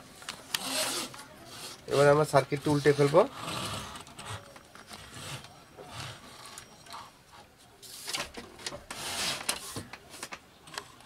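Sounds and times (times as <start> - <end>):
circuit board rustling and scraping: 0.0 - 11.0.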